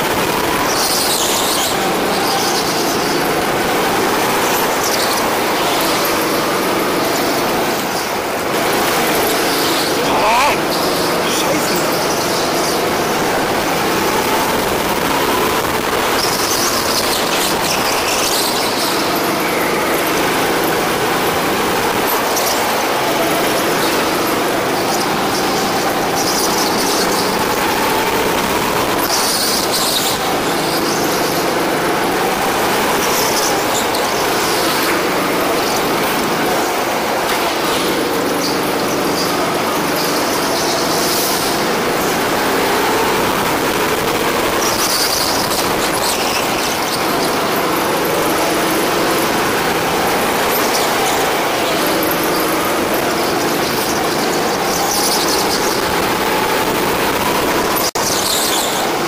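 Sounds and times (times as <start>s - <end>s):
go-kart engine revving: 0.0s - 59.0s
tyres squealing: 0.0s - 59.0s.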